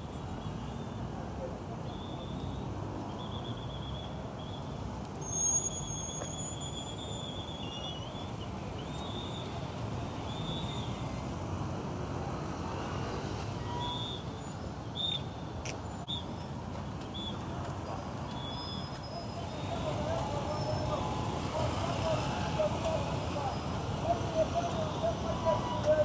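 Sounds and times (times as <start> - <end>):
traffic engines and tyres rumbling: 0.0 - 26.0.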